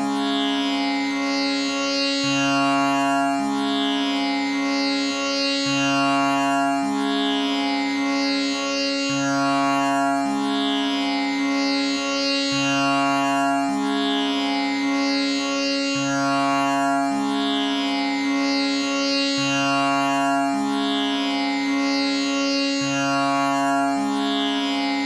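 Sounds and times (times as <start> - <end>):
tanpura drone: 0.0 - 25.0.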